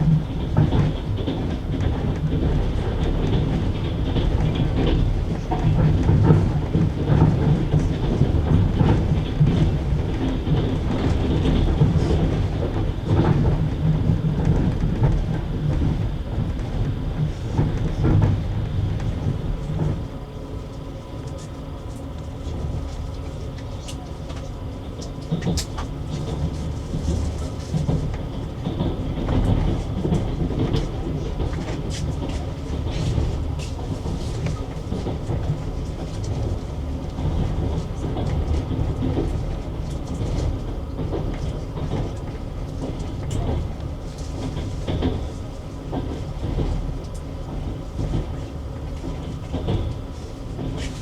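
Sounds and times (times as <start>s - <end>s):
train wheels knocking on rail joints: 0.0s - 20.1s, 24.3s - 51.0s
train rumble: 0.0s - 51.0s.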